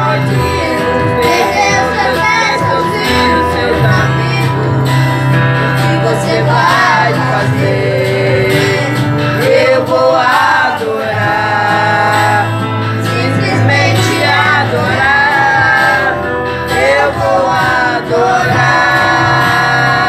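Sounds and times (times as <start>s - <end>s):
children singing a hymn: 0.0s - 20.0s
instrumental accompaniment: 0.0s - 20.0s.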